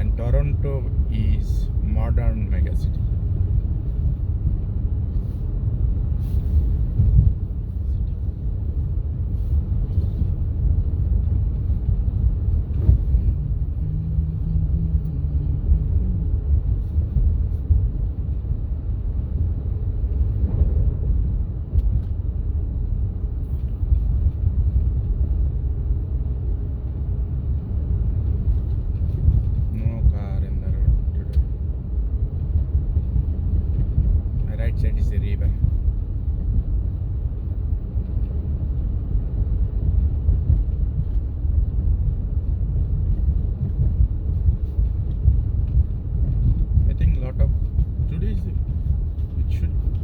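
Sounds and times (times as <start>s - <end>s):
car driving on snowy road: 0.0s - 50.0s.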